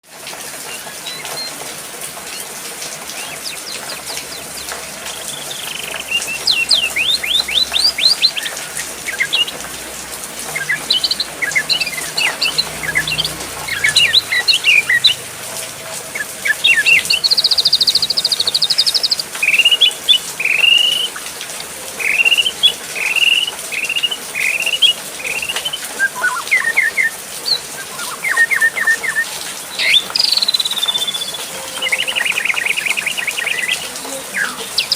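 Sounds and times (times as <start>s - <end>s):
songbirds chirping and singing: 0.5s - 34.9s.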